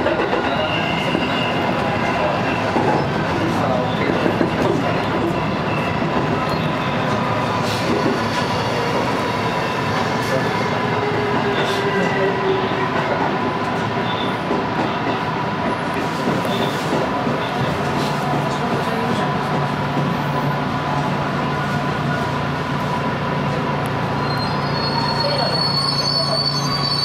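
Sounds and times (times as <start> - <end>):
electric train running rumble: 0.0 - 27.0.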